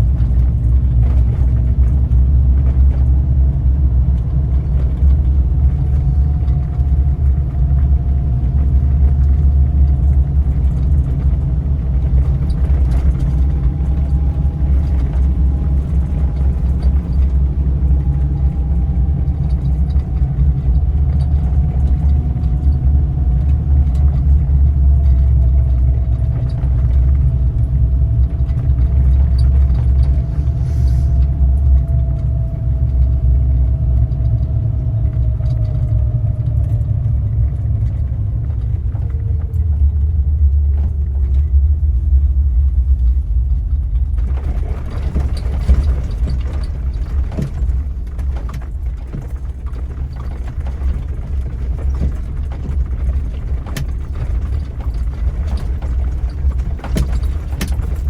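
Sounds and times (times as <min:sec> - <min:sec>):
engine and road rumble: 0:00.0 - 0:58.0.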